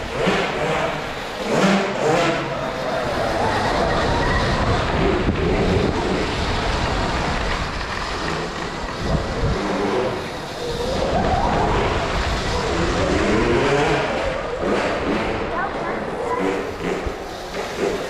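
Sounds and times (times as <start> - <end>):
off-road motorbikes revving: 0.0 - 18.0.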